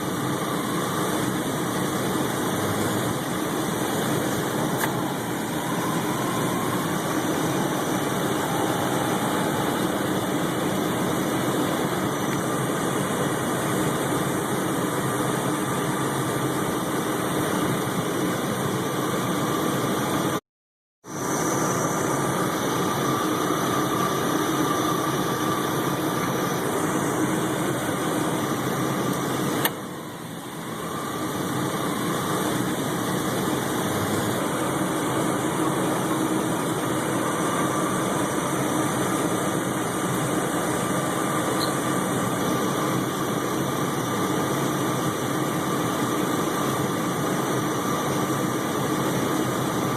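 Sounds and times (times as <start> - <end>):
engine idling: 0.0 - 20.4, 21.1 - 49.9
faint whine: 0.0 - 20.4, 21.1 - 49.9.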